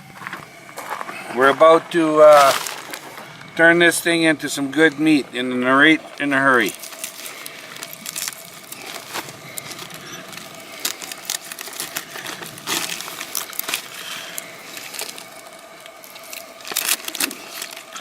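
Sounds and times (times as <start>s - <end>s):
sharp crunches and clicks: 0.2s - 18.0s.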